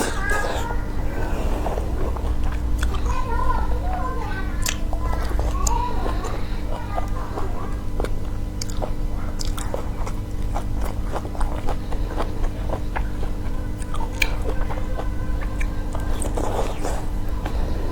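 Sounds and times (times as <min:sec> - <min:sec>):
person biting and chewing food: 0:00.0 - 0:03.2, 0:04.6 - 0:07.2, 0:08.0 - 0:17.6
steady low hum: 0:00.0 - 0:17.9.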